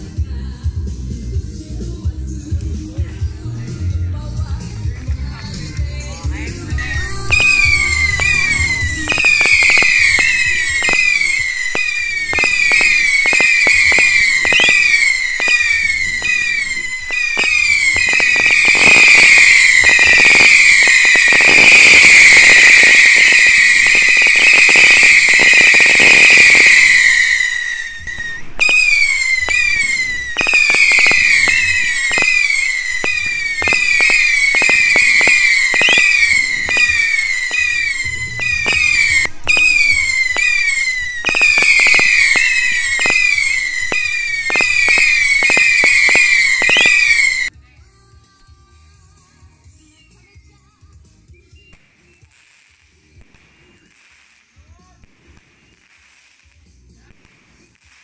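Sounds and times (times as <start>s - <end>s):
firecrackers cracking: 2.6s - 47.6s, 51.7s - 58.0s
whistling fireworks: 5.9s - 47.5s, 51.2s - 58.0s.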